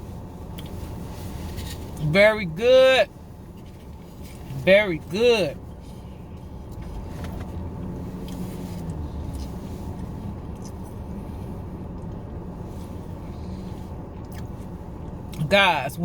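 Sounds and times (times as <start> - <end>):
car interior rumble: 0.0 - 16.0.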